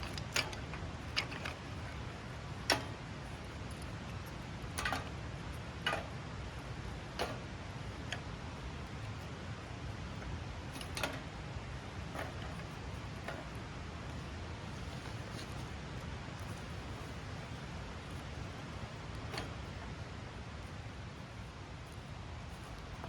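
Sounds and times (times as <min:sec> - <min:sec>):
low background noise: 0:00.0 - 0:23.0
sharp clicks and light knocks: 0:00.0 - 0:23.0.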